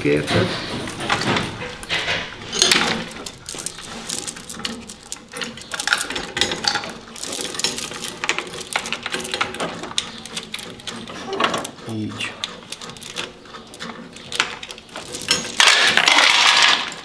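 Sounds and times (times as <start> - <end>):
metal tools clinking: 0.0 - 17.0.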